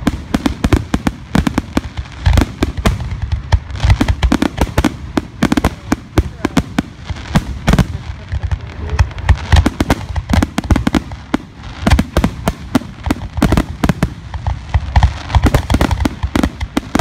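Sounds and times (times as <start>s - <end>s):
fireworks bursting overhead: 0.0s - 17.0s.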